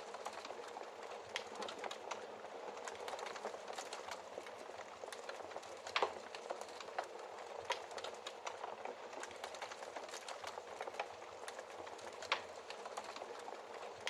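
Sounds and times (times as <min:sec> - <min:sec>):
fire crackling: 0:00.0 - 0:14.0
fire popping: 0:00.0 - 0:14.0.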